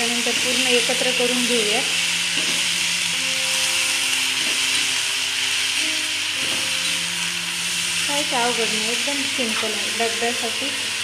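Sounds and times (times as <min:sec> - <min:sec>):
vegetables frying sizzle: 0:00.0 - 0:11.0.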